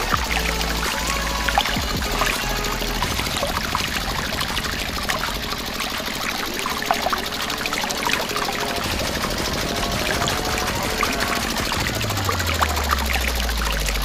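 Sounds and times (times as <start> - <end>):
water pouring from a hose: 0.0 - 14.0.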